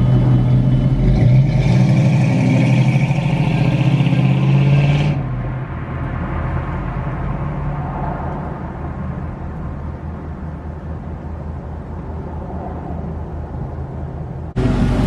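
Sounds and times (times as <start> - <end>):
car engine exhaust rumble: 0.0 - 15.0.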